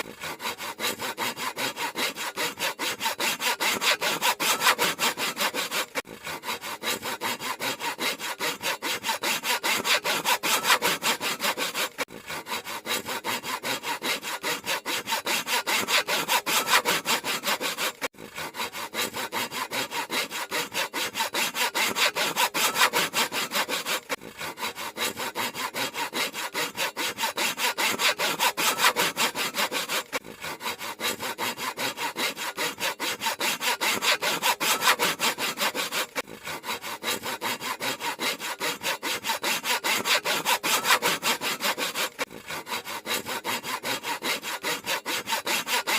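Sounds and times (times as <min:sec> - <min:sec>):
handsaw cutting wood: 0:00.0 - 0:45.9.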